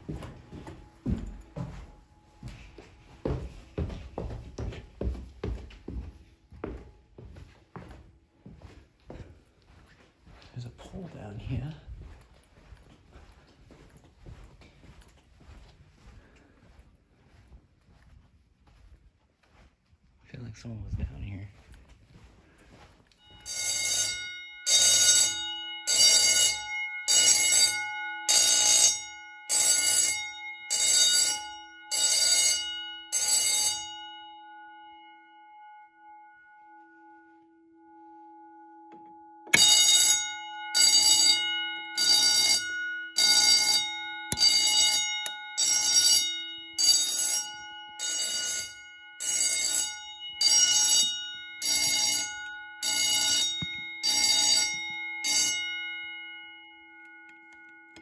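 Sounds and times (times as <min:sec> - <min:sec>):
fire alarm bell ringing in pulses: 0:00.0 - 0:06.4, 0:07.0 - 0:18.0, 0:21.6 - 0:58.0.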